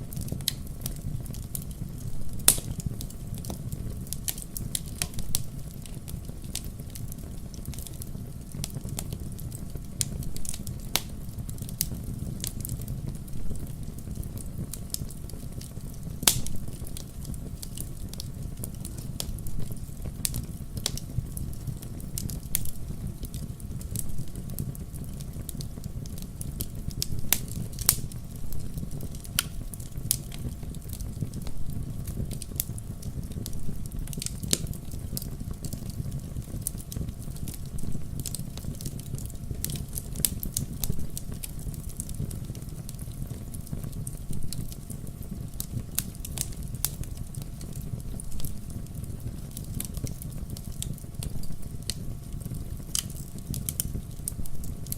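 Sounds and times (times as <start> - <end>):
fireplace fire crackling: 0.0 - 54.9.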